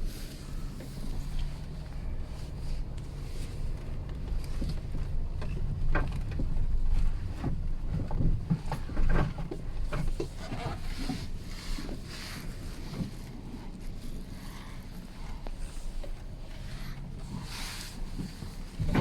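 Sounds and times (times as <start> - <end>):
car driving over rough road: 0.0 - 19.0.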